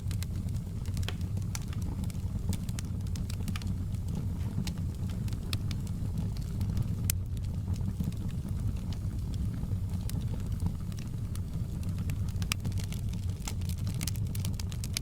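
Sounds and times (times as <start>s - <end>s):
fire crackles and pops: 0.0s - 15.0s
low rumble of flames: 0.0s - 15.0s.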